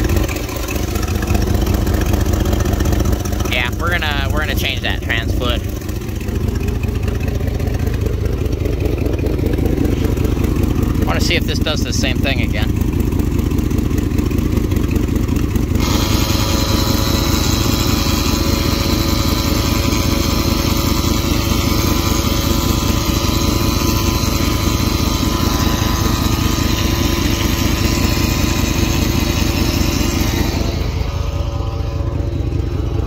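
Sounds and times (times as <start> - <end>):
misfiring engine running: 0.0 - 33.0
steady mechanical whir: 0.0 - 33.0.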